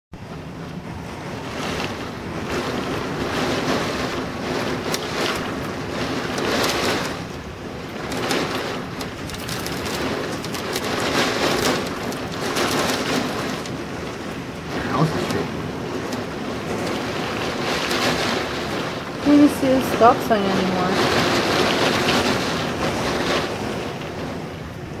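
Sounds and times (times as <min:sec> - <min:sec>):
gusting storm wind: 0:00.1 - 0:25.0
heavy rain: 0:00.1 - 0:25.0.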